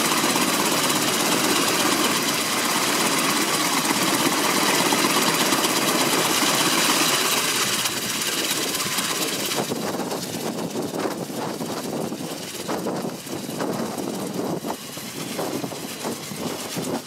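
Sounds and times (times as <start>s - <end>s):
helicopter rotor noise: 0.0s - 17.0s.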